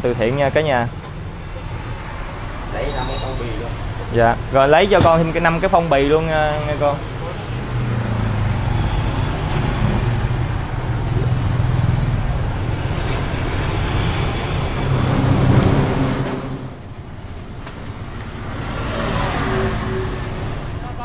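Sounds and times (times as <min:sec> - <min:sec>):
road traffic hum: 0:00.0 - 0:21.0.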